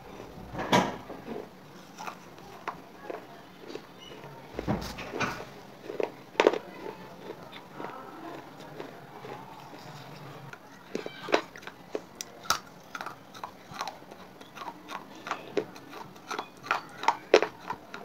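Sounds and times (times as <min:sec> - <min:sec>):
clay chips being chewed: 0:01.7 - 0:04.3, 0:05.8 - 0:18.0.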